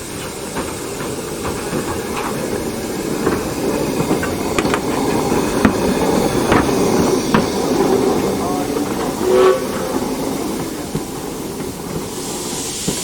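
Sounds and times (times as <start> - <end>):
steam locomotive running: 0.0 - 13.0.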